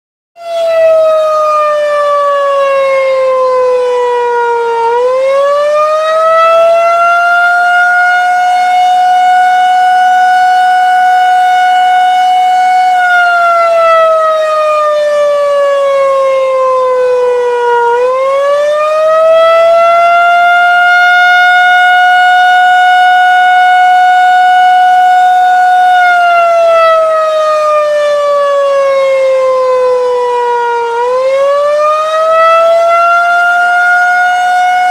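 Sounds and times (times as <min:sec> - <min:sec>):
tornado siren winding up and down: 0:00.4 - 0:34.9.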